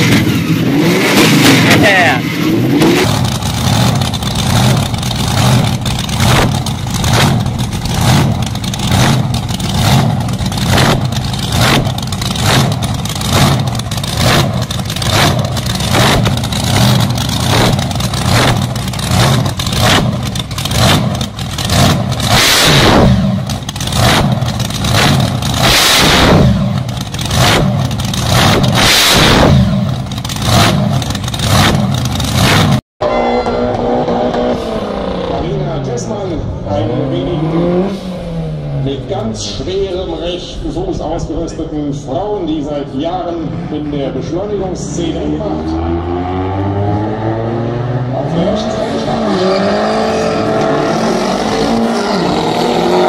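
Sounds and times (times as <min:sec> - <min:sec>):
drag car engines running: 0:00.0 - 0:53.0
engine throttle blips: 0:00.0 - 0:53.0.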